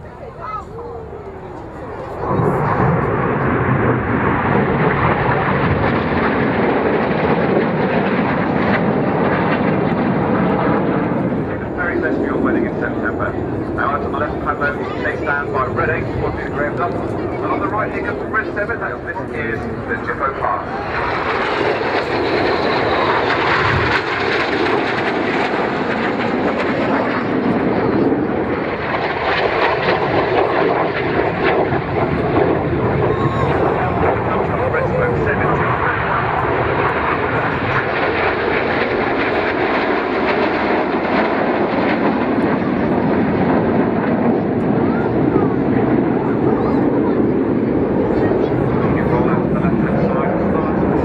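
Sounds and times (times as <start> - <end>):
jet engine rushing roar: 0.0 - 51.0.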